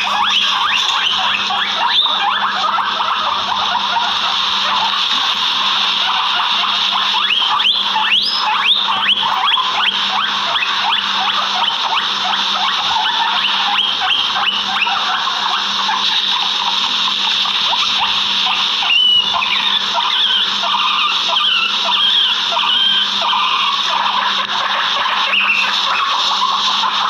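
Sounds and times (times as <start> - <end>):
loud animal call: 0.0 - 27.0
outdoor animal chorus: 0.0 - 27.0.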